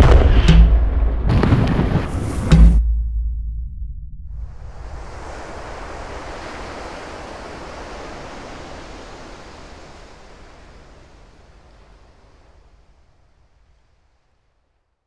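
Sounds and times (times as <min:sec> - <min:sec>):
wind and surf rushing: 0:00.0 - 0:02.8, 0:04.3 - 0:14.6.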